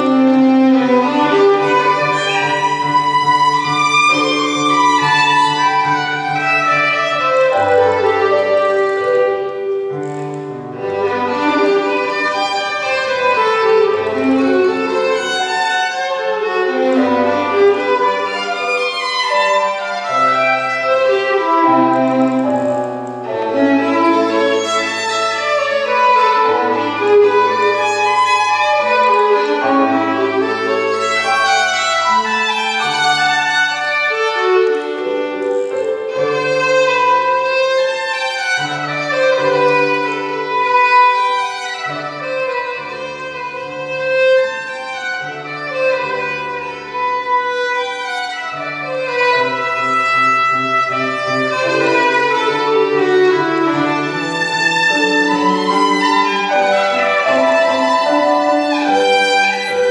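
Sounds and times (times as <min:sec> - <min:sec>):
violin melody: 0:00.0 - 0:59.9.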